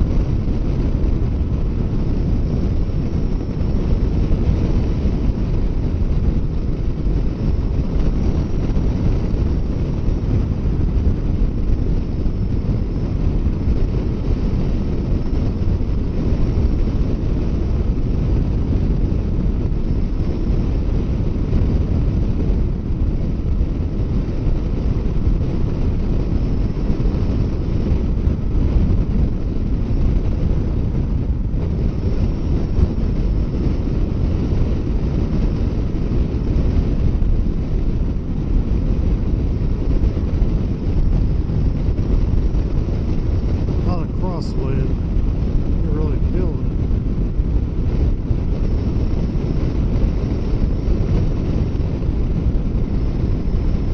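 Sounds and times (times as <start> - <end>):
motorcycle and tyres on road: 0.0 - 43.9, 44.9 - 53.9
wind rushing over microphone: 0.0 - 53.9.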